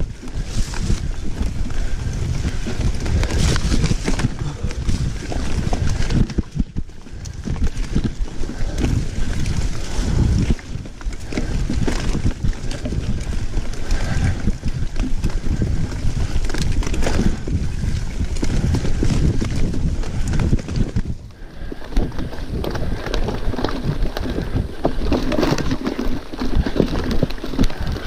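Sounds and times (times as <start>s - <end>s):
bike rattling over bumpy trail: 0.0s - 28.0s
wind rumbling on microphone: 0.0s - 28.0s.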